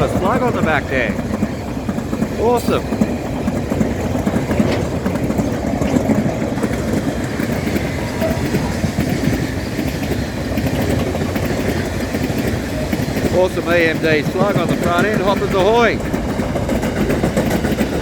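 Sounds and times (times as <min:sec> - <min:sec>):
freight train wheels on rails: 0:00.0 - 0:18.0.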